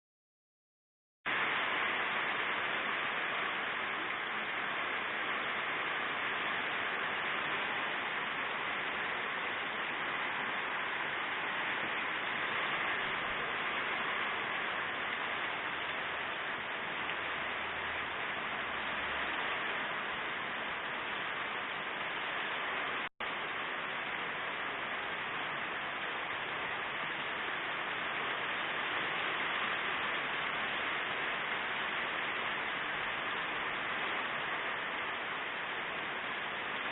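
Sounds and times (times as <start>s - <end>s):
heavy rain pouring: 1.3s - 36.9s.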